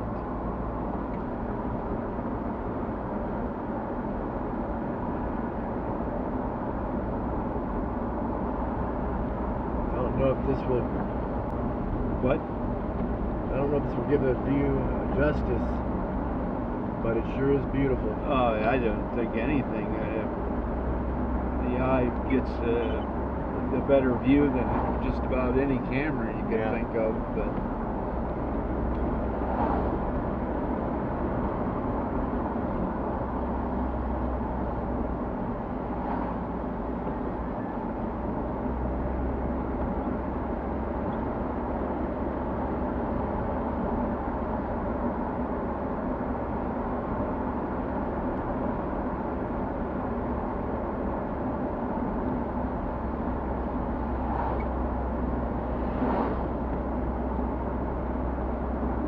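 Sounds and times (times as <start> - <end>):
car interior road noise: 0.0 - 59.0.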